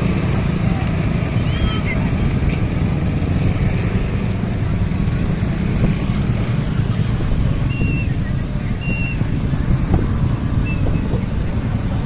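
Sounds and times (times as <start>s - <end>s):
heavy machinery diesel rumble: 0.0s - 12.0s.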